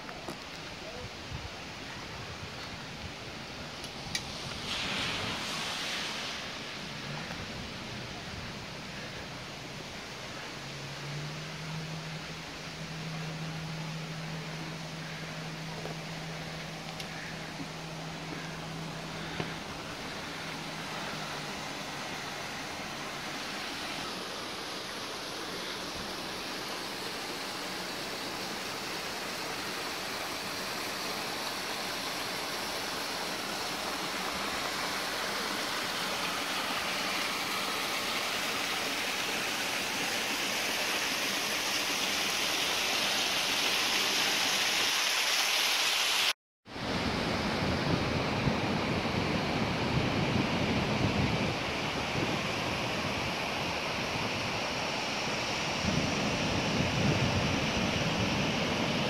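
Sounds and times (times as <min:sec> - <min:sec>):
rushing stream water: 0:00.0 - 0:59.0.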